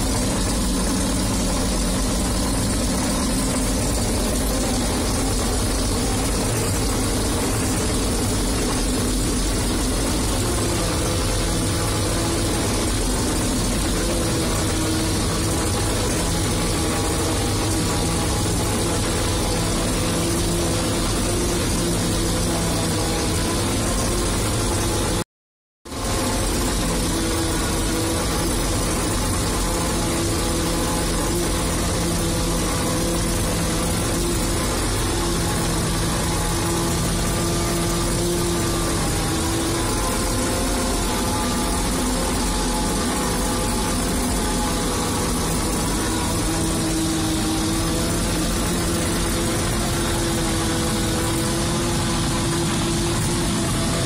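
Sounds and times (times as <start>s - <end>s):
harvester engine and machinery drone: 0.0s - 25.2s, 25.9s - 54.0s.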